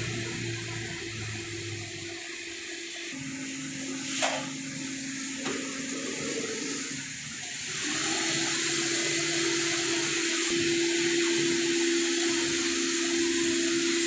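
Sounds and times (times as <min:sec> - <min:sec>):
car wash machine hissing and humming: 0:00.0 - 0:14.0.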